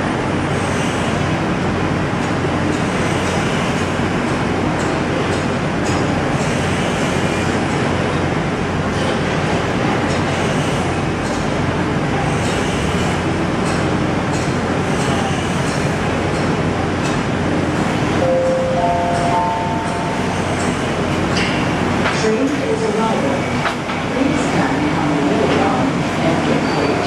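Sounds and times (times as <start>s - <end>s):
train car running hum: 0.0s - 27.0s.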